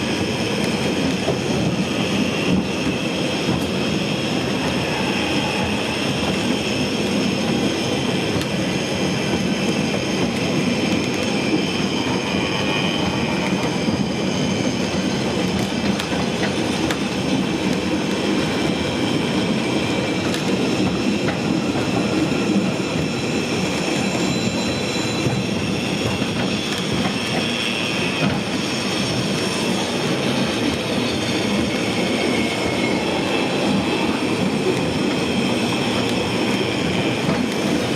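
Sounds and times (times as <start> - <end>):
train wheels rumbling on rails: 0.0 - 37.9
high wheel squeal: 1.5 - 16.4, 18.5 - 37.9.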